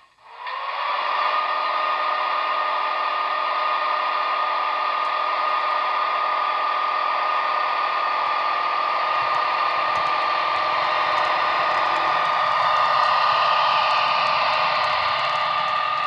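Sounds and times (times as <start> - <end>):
electric locomotive whirring drone: 0.0 - 16.0
hiss: 0.0 - 16.0
high whine: 1.3 - 16.0.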